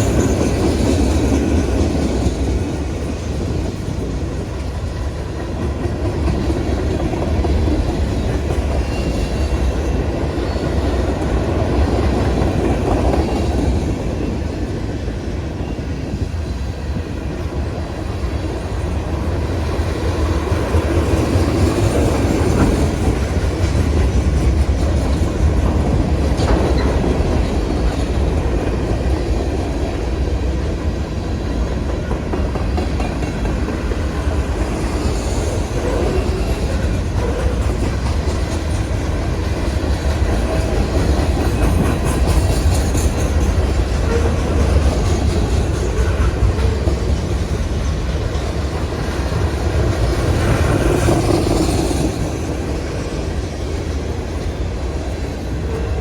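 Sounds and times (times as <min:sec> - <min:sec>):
freight train cars rolling past: 0:00.0 - 0:56.0.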